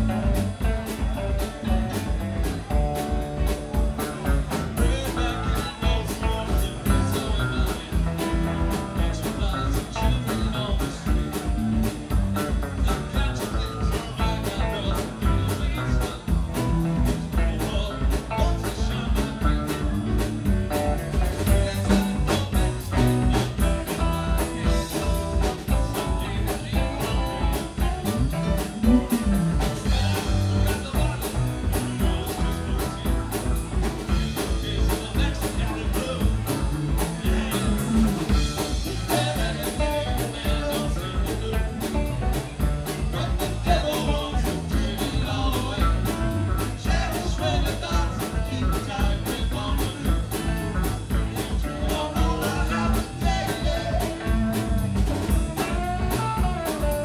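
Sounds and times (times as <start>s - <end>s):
drum kit: 0.0s - 57.0s
electric guitars: 0.0s - 57.0s
keyboard: 0.0s - 57.0s.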